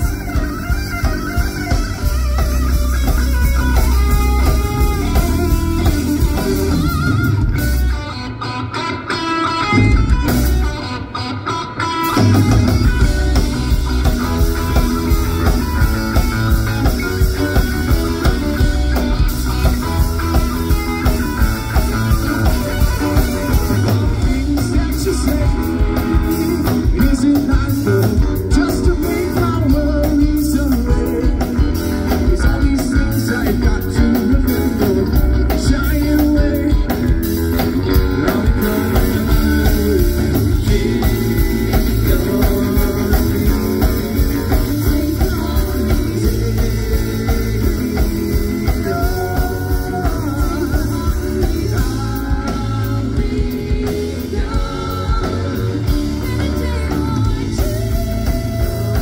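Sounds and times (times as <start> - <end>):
drums with steady beat: 0.0 - 8.2, 9.1 - 59.0
electric guitar: 0.0 - 59.0.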